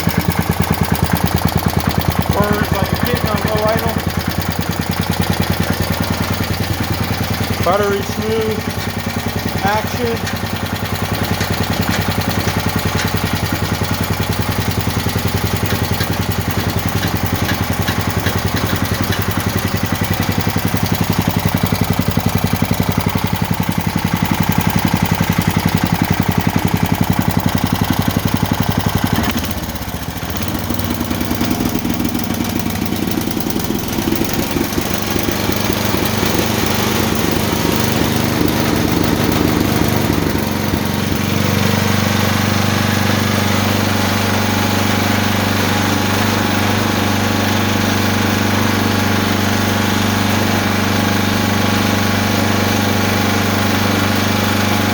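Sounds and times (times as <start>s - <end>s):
snowblower engine idling: 0.0s - 54.9s.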